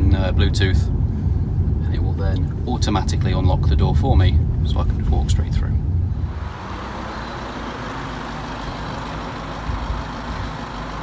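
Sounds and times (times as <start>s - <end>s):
car tyre and engine noise: 0.0s - 11.0s.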